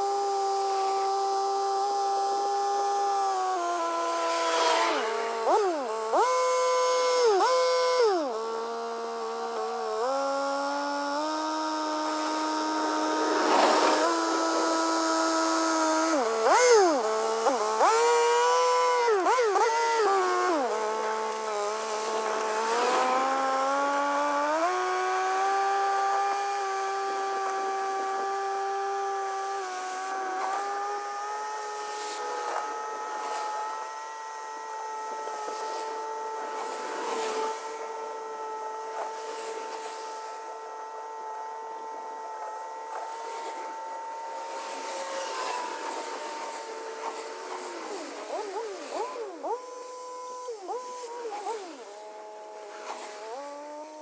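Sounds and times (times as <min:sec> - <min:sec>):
rotary tiller working: 0:00.0 - 0:54.0.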